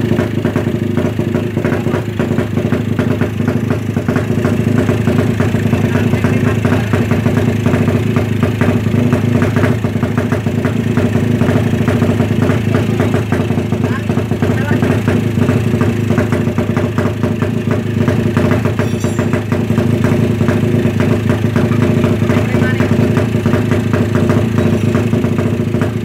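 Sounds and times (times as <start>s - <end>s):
single-cylinder engine idling: 0.0s - 26.0s.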